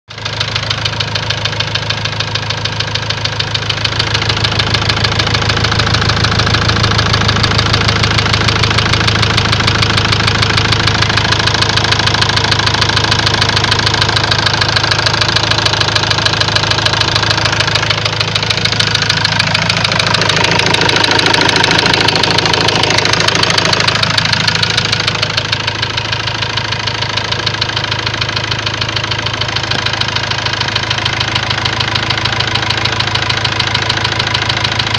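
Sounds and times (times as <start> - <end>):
engine running with knocking: 0.1 - 34.9.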